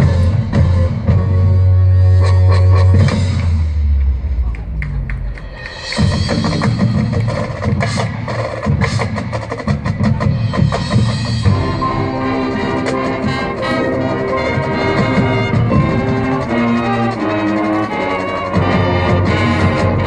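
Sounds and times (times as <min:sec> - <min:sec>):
marching band playing: 0:00.0 - 0:20.0.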